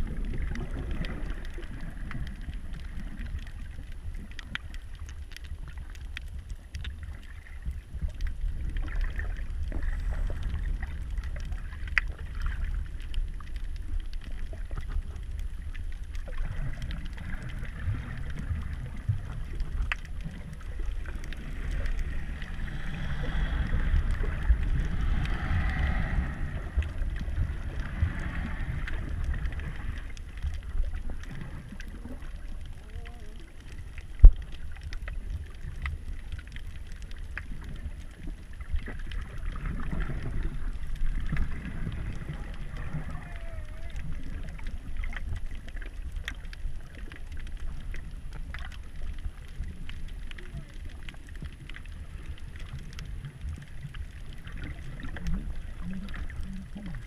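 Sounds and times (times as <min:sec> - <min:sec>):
sharp clicks and crackles: 0:00.0 - 0:57.0
underwater low rumble: 0:00.0 - 0:57.0.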